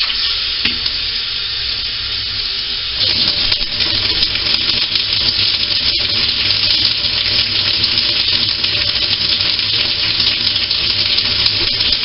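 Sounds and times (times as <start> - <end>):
shower spraying water: 0.0 - 12.0.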